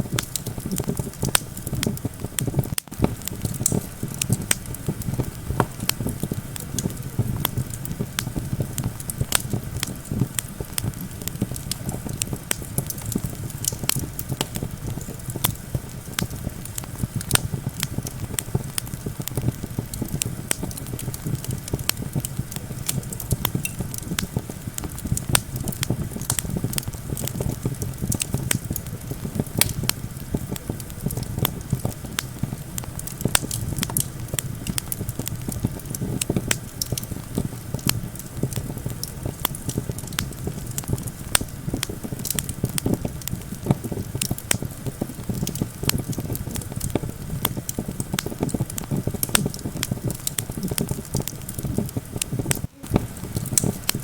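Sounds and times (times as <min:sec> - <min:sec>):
campfire crackling: 0:00.0 - 0:54.0
low rumble of wind: 0:00.0 - 0:54.0.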